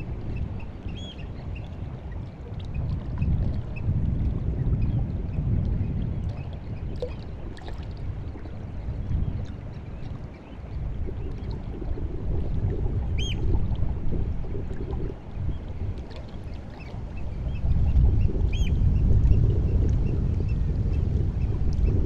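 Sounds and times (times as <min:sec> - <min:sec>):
sea water lapping: 0:00.0 - 0:22.0.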